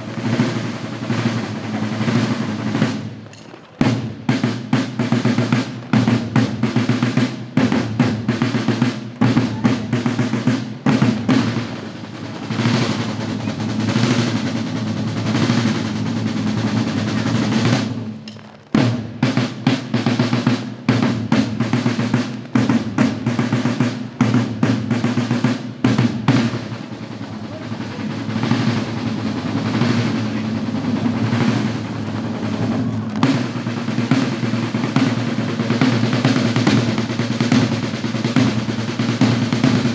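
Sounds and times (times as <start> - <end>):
parade drums playing rolls and beats: 0.0 - 39.9.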